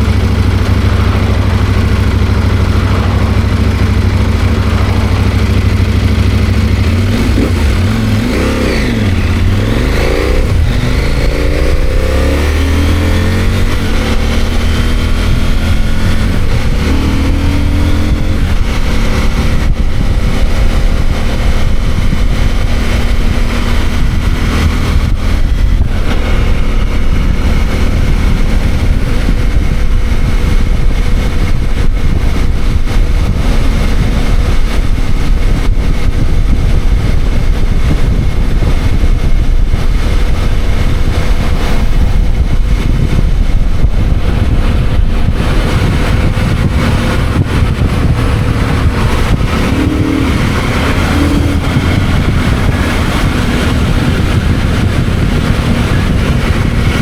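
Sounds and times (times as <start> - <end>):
motorcycle engine shifting up: 0.0 - 57.0.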